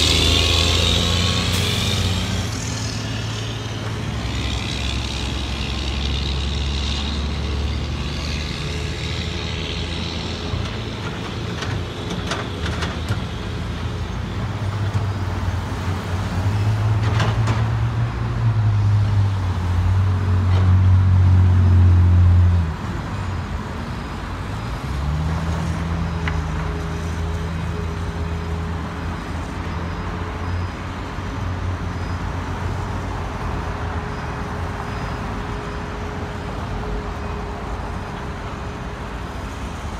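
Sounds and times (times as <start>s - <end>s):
excavator diesel engine droning: 0.0s - 17.2s, 19.4s - 39.9s.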